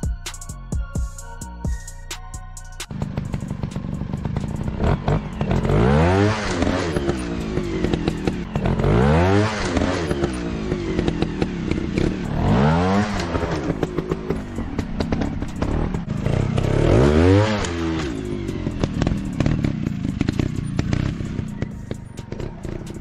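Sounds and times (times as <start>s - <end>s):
motorcycle engine revving: 2.8s - 23.0s.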